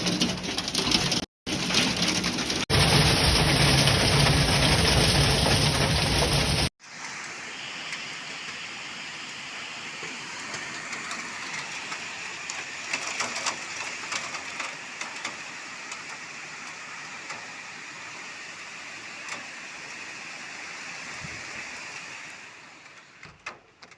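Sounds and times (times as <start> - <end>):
rain falling steadily: 0.0 - 23.9.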